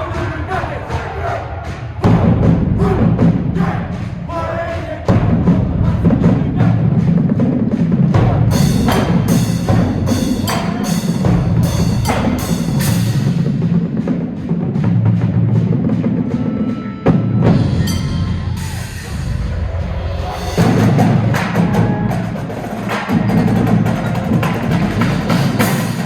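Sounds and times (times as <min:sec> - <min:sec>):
marching drumline playing: 0:00.0 - 0:26.0
heavy drum hit: 0:02.0 - 0:16.1, 0:17.1 - 0:26.0.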